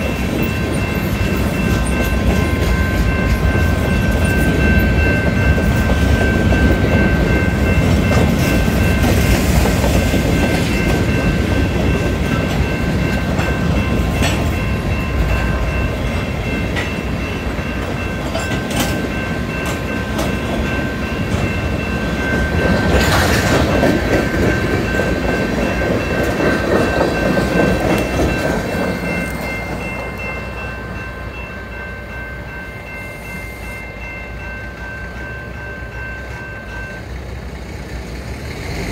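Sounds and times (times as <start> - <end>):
high ringing tones: 0.0 - 37.3
freight train wheels rumbling: 0.0 - 38.9.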